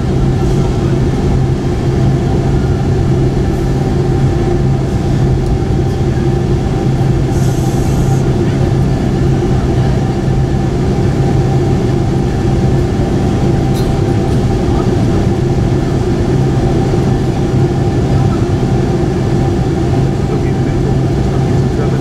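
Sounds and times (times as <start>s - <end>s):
airframe and wheels rumbling: 0.0s - 22.0s
jet engines humming: 0.0s - 22.0s.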